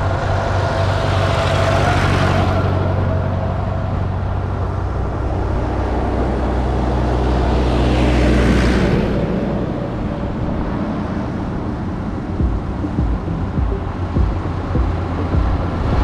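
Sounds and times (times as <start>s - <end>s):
tractor engine approaching: 0.0s - 16.0s
tractor engine passing: 0.0s - 16.0s.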